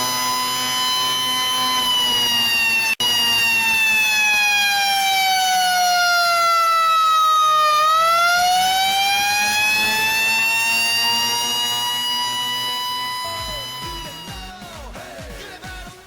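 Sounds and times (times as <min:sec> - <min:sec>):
fire truck siren wailing: 0:00.0 - 0:14.9.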